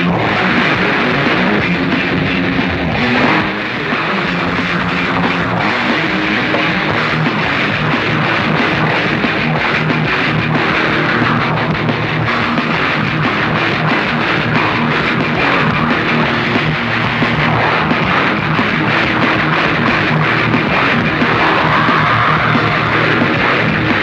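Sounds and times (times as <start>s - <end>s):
distorted guitar: 0.0s - 24.0s
drums: 0.0s - 24.0s.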